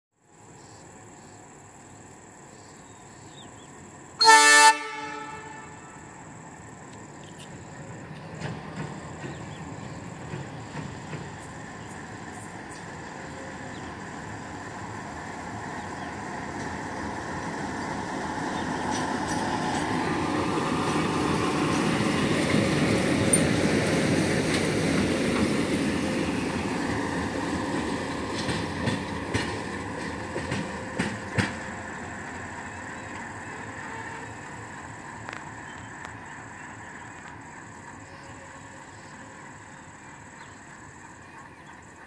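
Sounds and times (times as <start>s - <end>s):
diesel locomotive passing: 0.2s - 42.0s.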